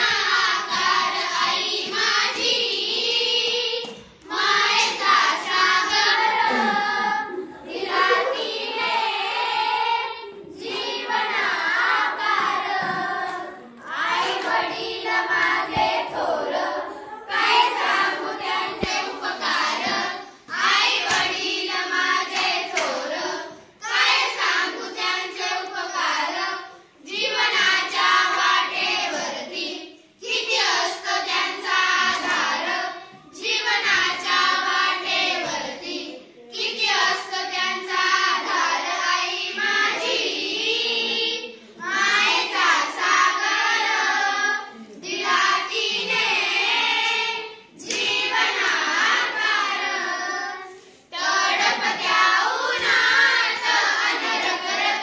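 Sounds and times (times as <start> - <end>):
girls singing together: 0.0 - 55.0.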